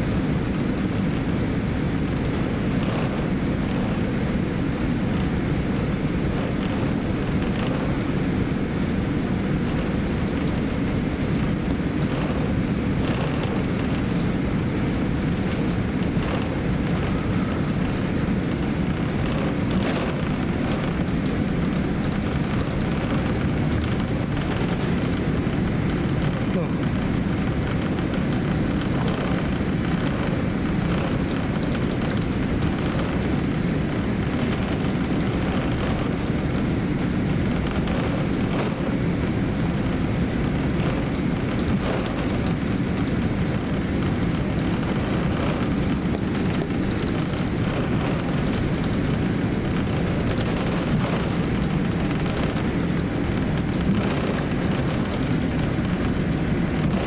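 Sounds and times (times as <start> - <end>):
airliner engines low rumble: 0.0 - 57.0
cabin air: 0.0 - 57.0
wheels rolling: 0.0 - 57.0.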